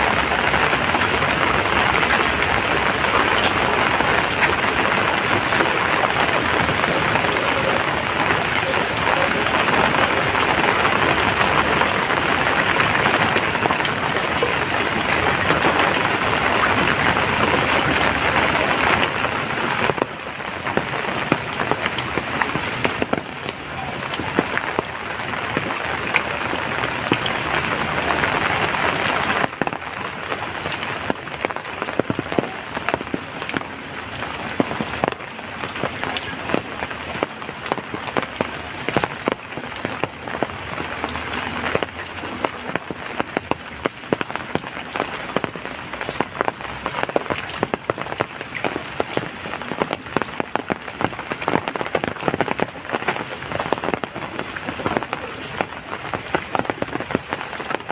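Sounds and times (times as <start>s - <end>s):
raindrops tapping on surface: 0.0s - 57.9s
rushing rain: 0.0s - 57.9s.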